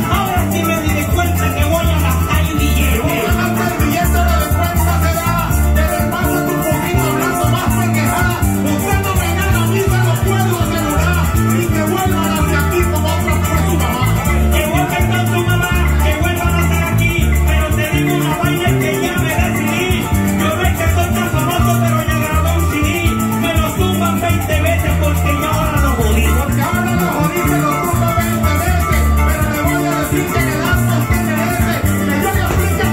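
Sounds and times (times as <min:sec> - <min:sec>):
electric bass: 0:00.0 - 0:32.9
maracas: 0:00.0 - 0:32.9.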